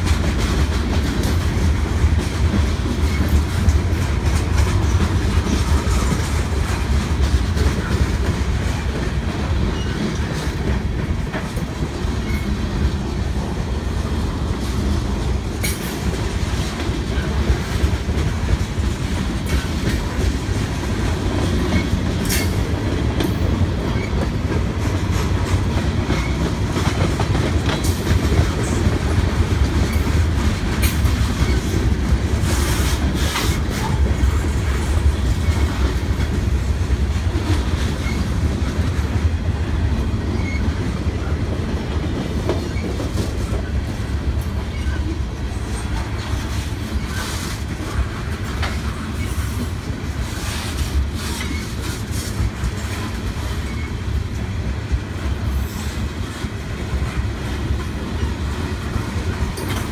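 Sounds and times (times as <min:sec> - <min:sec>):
sharp clicks of train wheels: 0:00.0 - 0:59.9
train wheels rumbling on rails: 0:00.0 - 0:59.9.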